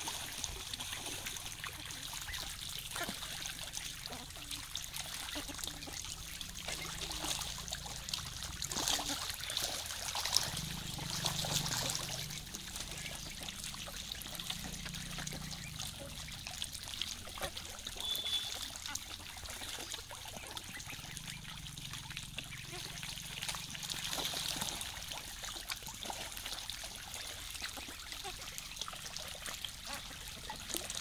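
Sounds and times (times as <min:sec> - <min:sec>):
ducks splashing and dabbling: 0:00.0 - 0:31.0
water trickling: 0:00.0 - 0:31.0.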